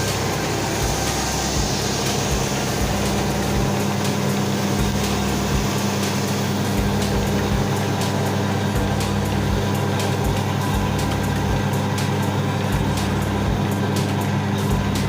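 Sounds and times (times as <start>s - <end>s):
sander motor humming and whirring: 0.0s - 15.0s.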